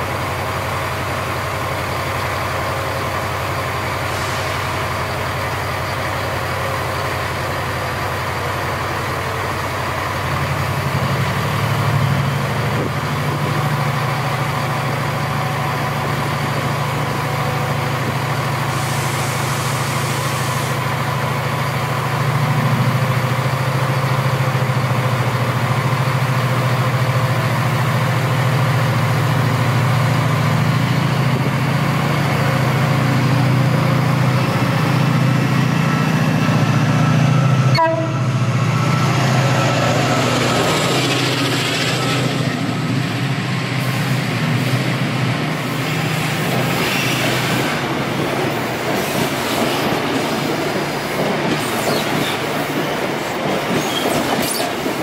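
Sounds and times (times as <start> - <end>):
train engines idling: 0.0 - 55.0.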